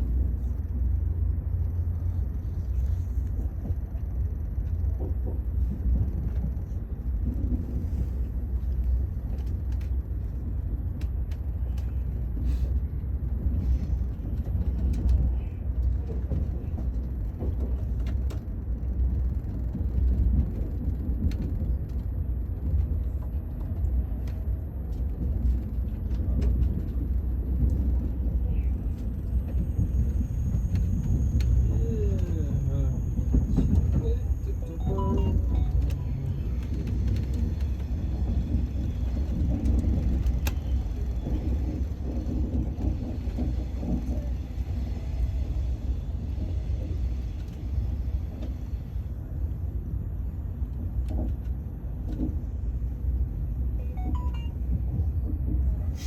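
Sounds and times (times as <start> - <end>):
moving vehicle rumble: 0.0 - 56.0.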